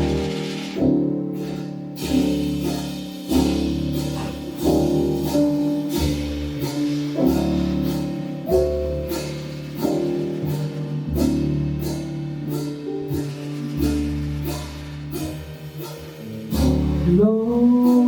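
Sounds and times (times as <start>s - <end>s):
bass: 0.0s - 18.0s
drums: 0.0s - 18.0s
jazz band playing slow ballad: 0.0s - 18.0s
piano chords: 0.0s - 18.0s.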